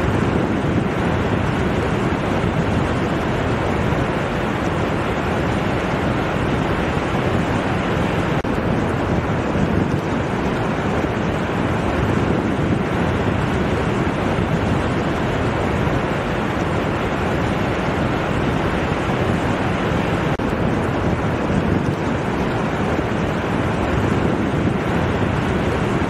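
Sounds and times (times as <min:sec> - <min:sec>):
waves breaking on beach: 0:00.0 - 0:26.0
wind on microphone: 0:00.0 - 0:26.0.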